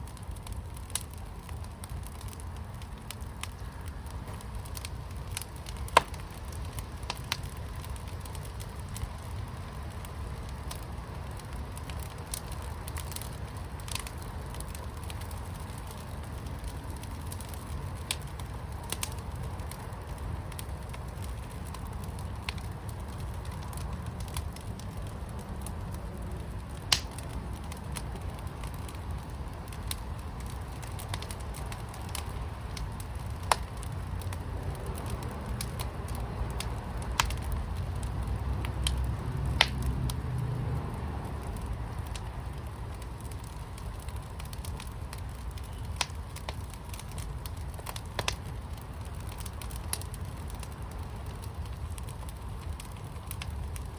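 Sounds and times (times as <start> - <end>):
low rumble of fire: 0.0 - 53.9
sharp pops of fire: 0.0 - 53.9
wood fire crackling: 0.0 - 53.9.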